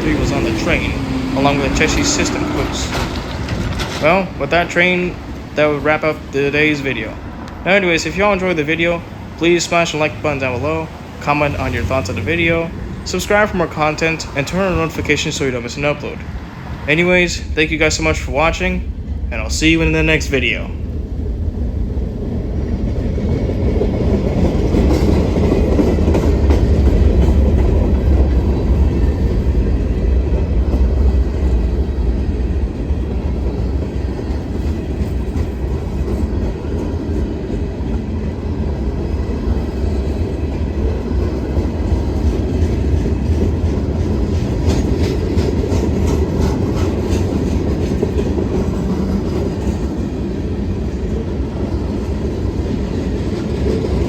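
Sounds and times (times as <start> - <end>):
wheels clacking over rail joints: 0.0 - 19.4, 20.5 - 54.0
train rumbling past: 0.0 - 54.0.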